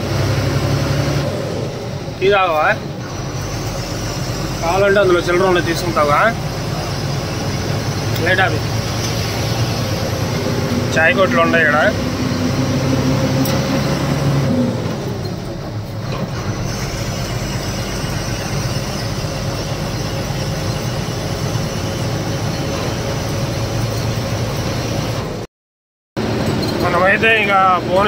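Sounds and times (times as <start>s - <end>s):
lorry engine rumble: 0.0s - 25.5s, 26.2s - 28.0s
road noise: 0.0s - 25.5s, 26.2s - 28.0s.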